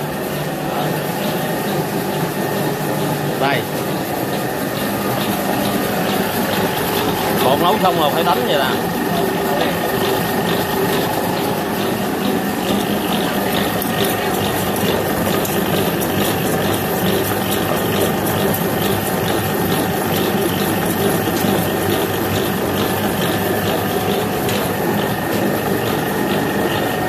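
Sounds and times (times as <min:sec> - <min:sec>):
electric dough beater clattering: 0:00.0 - 0:27.0.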